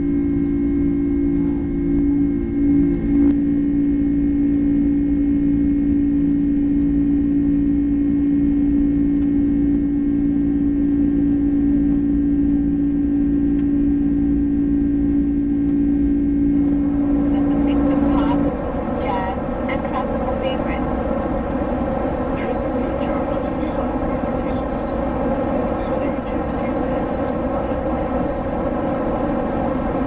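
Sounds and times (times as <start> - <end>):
jet engine cabin rumble: 0.0 - 30.0.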